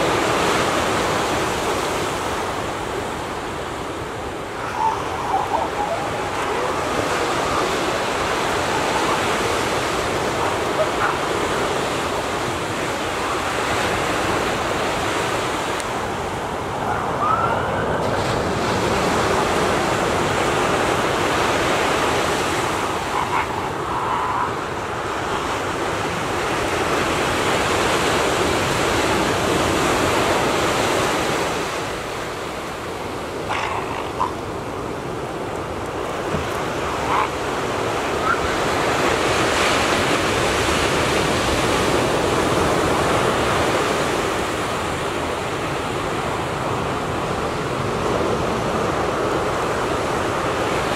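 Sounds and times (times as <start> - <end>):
ocean surf washing: 0.0 - 50.9.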